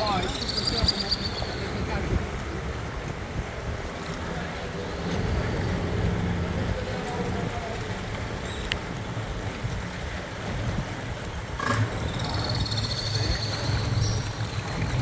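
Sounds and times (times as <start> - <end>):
boat motor humming: 0.0 - 15.0
water rushing along hull: 0.0 - 15.0.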